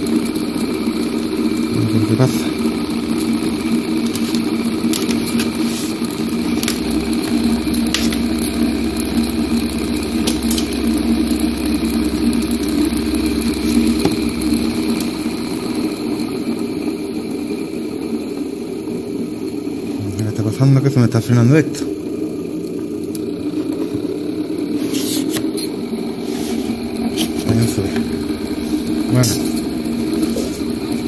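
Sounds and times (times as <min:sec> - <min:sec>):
deeper hum: 0:00.0 - 0:31.0
fan motor whirring: 0:00.0 - 0:31.0.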